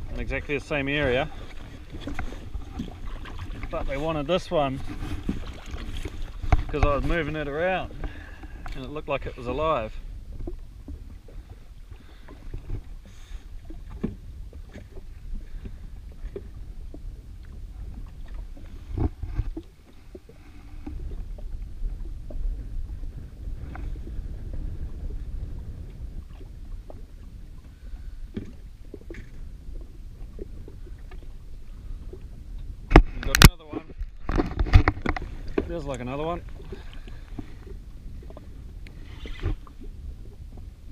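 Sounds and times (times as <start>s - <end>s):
small waves lapping against hull: 0.0s - 40.9s
wind rumbling on microphone: 0.0s - 40.9s.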